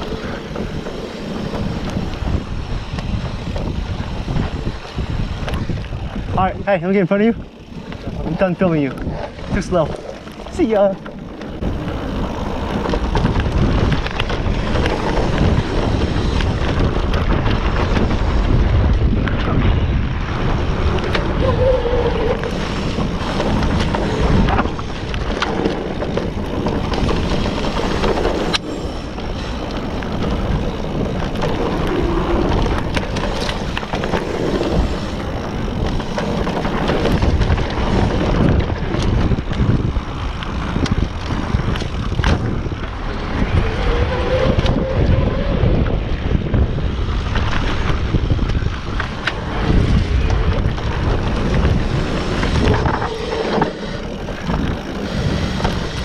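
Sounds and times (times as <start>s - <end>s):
bike tyre and frame rattle: 0.0s - 56.0s
wind buffeting microphone: 0.0s - 56.0s.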